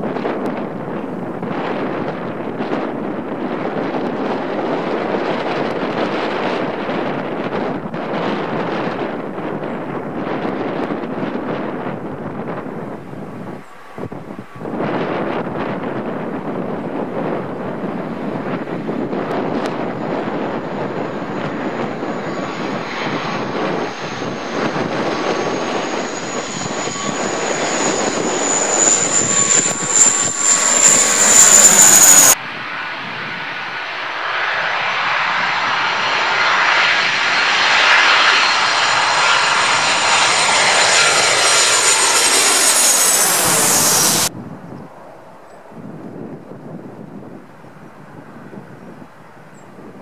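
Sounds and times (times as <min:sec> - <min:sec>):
airliner passing overhead: 0:00.1 - 0:50.0.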